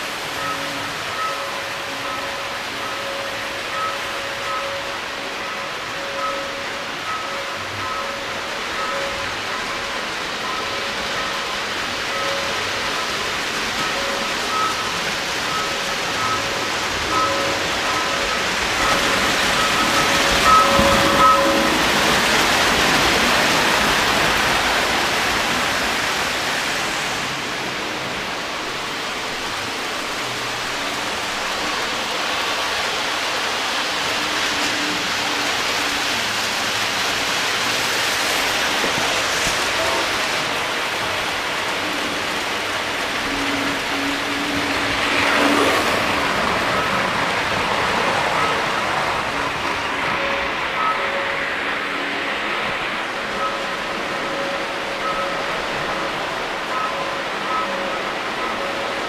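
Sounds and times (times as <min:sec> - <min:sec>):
model train wheels whirring on rail: 0:00.0 - 0:59.0.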